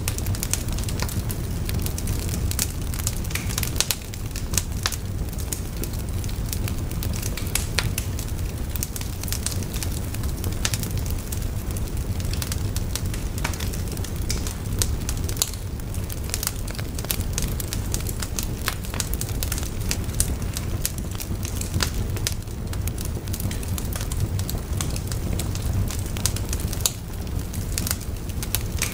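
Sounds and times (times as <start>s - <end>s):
fire burning with crackles: 0.0s - 28.9s.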